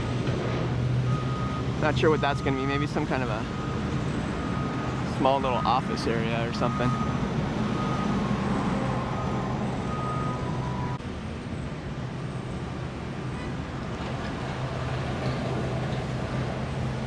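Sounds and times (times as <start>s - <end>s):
heavy vehicle engine hum: 0.0s - 17.0s
passing vehicles: 0.0s - 17.0s.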